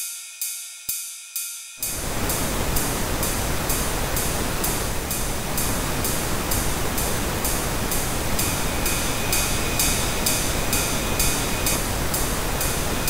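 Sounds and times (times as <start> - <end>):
ride cymbal hits: 0.0 - 13.0
pink noise: 1.8 - 13.0.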